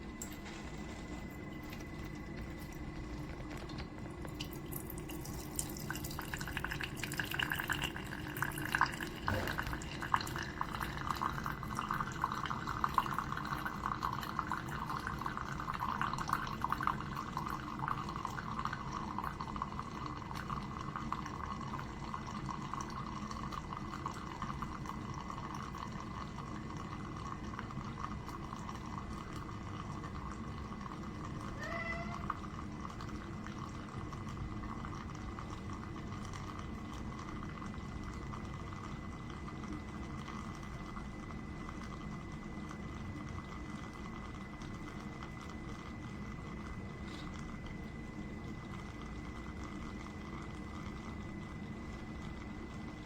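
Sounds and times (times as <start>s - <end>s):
coffee dripping into cup: 0.0s - 53.0s
coffee maker humming: 0.0s - 53.0s.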